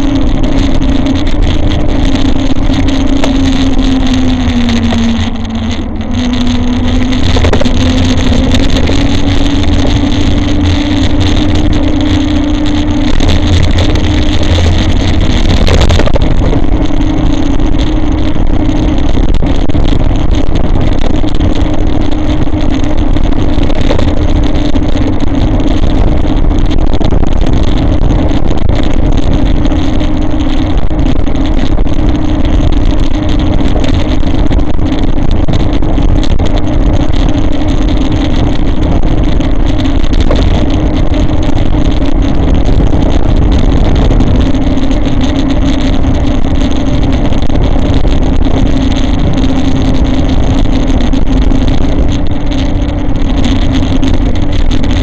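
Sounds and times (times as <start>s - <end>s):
electric motor hum: 0.0s - 55.0s
tyre and wind rumble: 0.0s - 55.0s.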